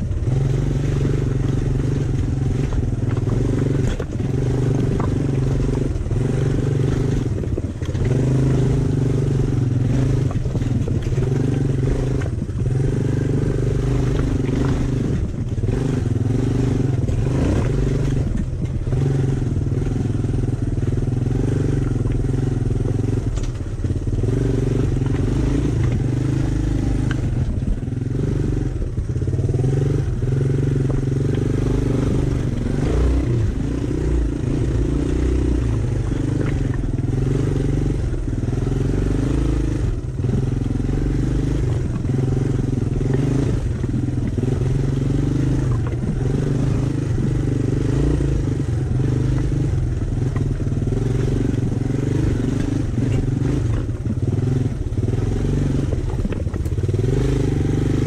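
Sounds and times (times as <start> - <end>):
rattles and knocks over rough ground: 0.0 - 58.0
three-wheeler engine running: 0.0 - 58.0.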